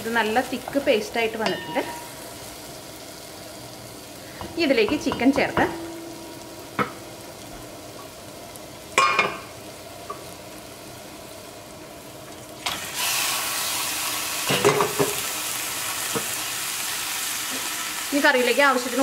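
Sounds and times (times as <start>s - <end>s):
meat sizzling in a pot: 0.0s - 19.0s
paste frying quietly: 0.0s - 19.0s.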